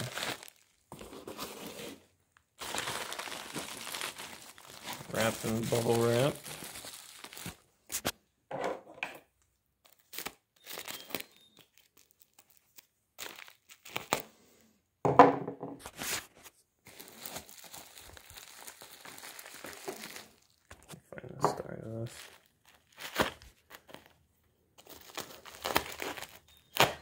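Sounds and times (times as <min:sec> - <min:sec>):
bubble wrap crinkling and tearing: 0:00.0 - 0:08.2, 0:09.8 - 0:14.3, 0:15.9 - 0:21.0, 0:21.7 - 0:27.0.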